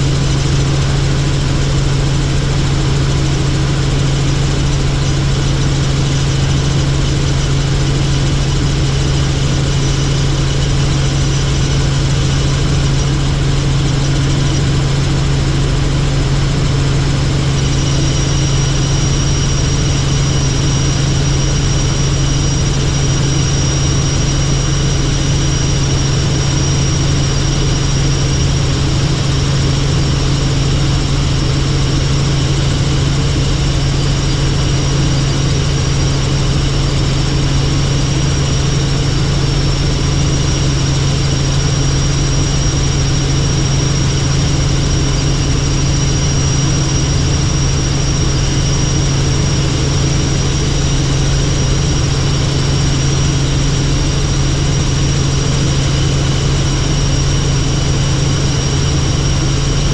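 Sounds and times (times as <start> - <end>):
helicopter engine and rotor: 0.0 - 59.9
thin high whine: 4.4 - 59.9.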